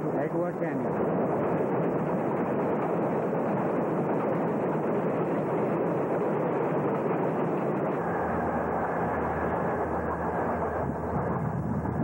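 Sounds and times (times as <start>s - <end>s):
freight train rolling on rails: 0.0s - 12.0s
low steady drone: 0.0s - 12.0s.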